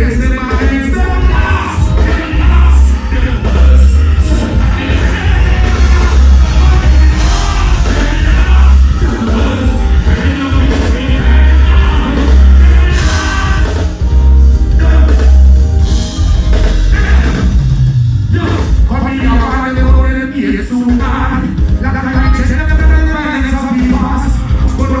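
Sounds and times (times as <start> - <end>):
person singing into a microphone: 0.0 - 14.0, 18.4 - 25.0
live band playing: 0.0 - 25.0.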